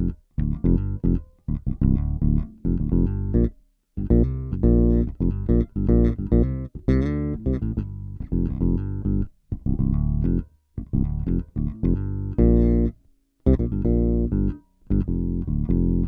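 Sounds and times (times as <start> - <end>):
electric bass riff with octave effect: 0.0 - 16.0.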